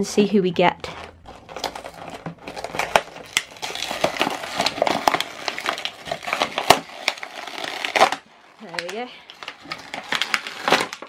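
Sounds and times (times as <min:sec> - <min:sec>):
plastic packaging crinkling and tearing: 0:00.8 - 0:11.0.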